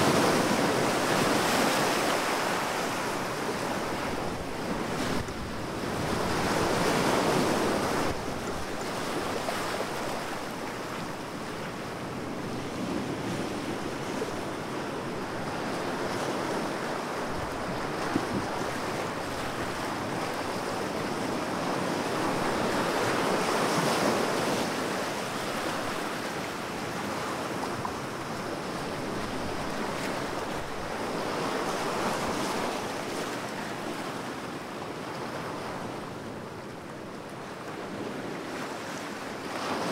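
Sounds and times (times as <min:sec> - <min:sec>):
ocean waves rushing: 0:00.0 - 0:33.9.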